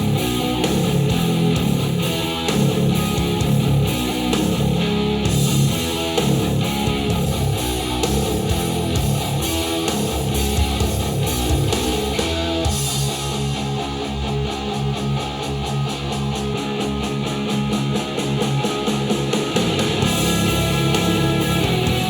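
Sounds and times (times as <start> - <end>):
rock music through speakers: 0.0 - 22.0.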